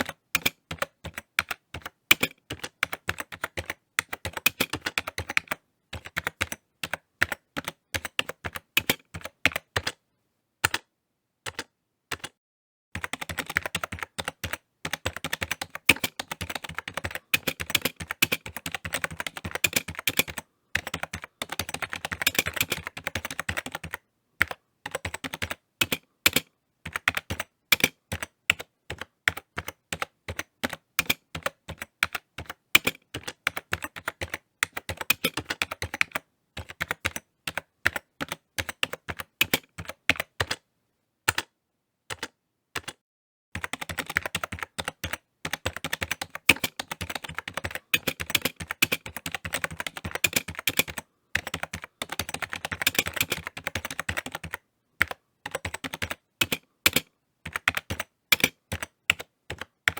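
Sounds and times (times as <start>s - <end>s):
typing on computer keyboard: 0.0s - 10.0s, 10.6s - 10.9s, 11.5s - 12.4s, 13.0s - 40.6s, 41.3s - 41.5s, 42.1s - 43.0s, 43.6s - 59.9s.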